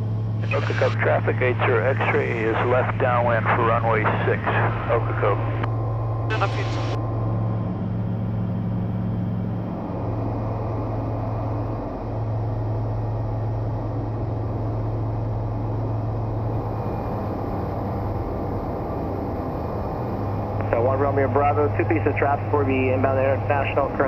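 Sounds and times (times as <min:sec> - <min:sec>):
propeller airplane engine droning: 0:00.0 - 0:24.0.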